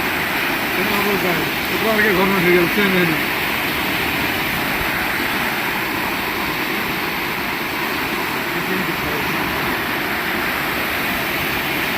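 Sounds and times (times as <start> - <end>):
floodwater rushing: 0.0 - 11.9.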